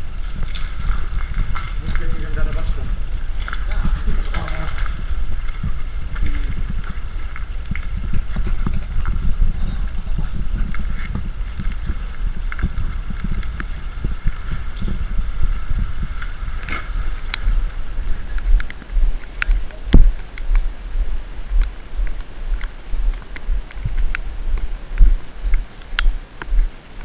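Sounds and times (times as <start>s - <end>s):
wind noise on microphone: 0.0s - 27.0s.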